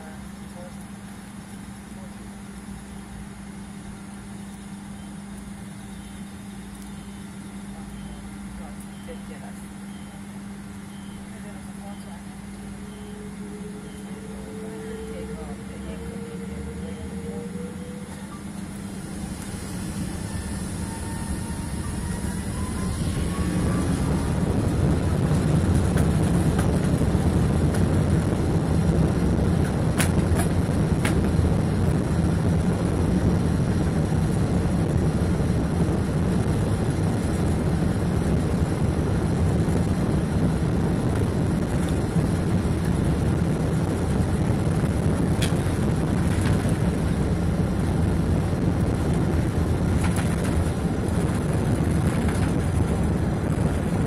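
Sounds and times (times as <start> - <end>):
jet engines rumbling in cabin: 0.0 - 54.0.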